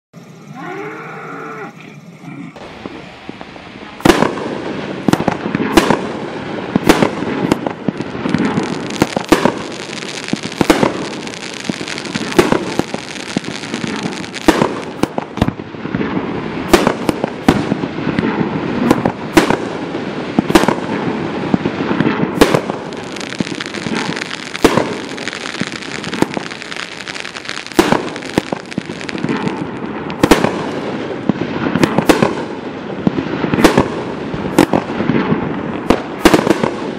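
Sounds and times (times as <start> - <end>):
fireworks crackling: 0.2 - 36.9
fireworks bangs: 2.5 - 36.9.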